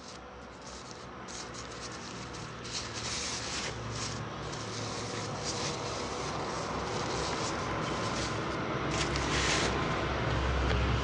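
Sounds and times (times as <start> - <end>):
plastic wrapping crinkling: 0.0 - 9.8.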